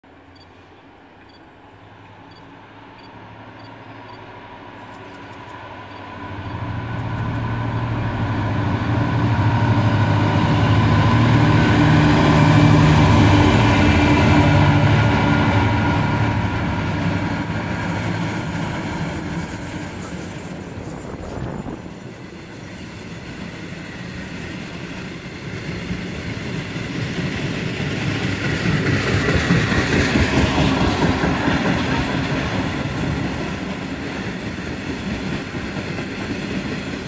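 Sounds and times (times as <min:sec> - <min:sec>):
diesel locomotive engine drone: 0:00.0 - 0:37.0.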